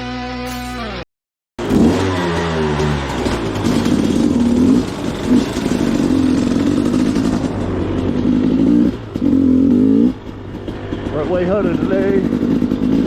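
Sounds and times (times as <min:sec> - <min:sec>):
dirt bike engine running: 0:01.6 - 0:13.0.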